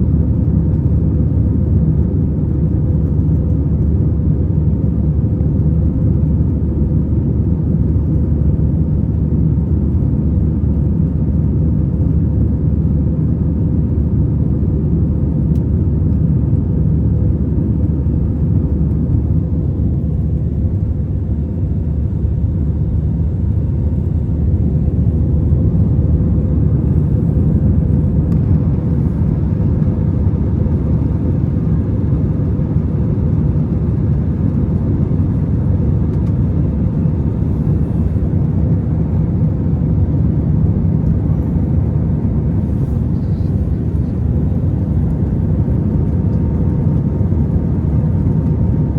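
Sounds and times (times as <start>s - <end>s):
faint steady hum: 0.0s - 48.9s
jet engines and rushing air: 0.0s - 48.9s.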